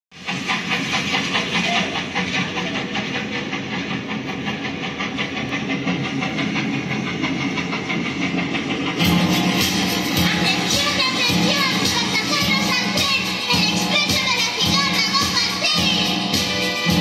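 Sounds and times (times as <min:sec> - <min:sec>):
steam train chugging: 0:00.1 - 0:17.0.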